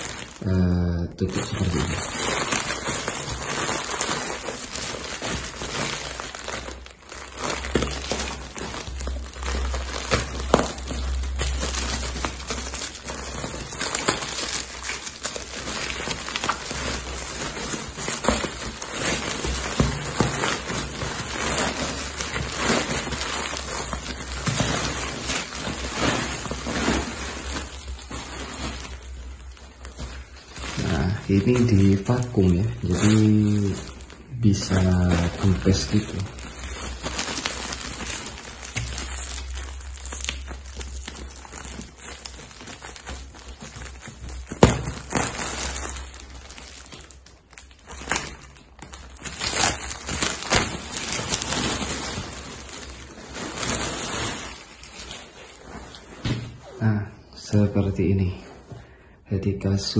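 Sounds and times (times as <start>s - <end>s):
plastic packaging crinkling: 0.0s - 59.9s.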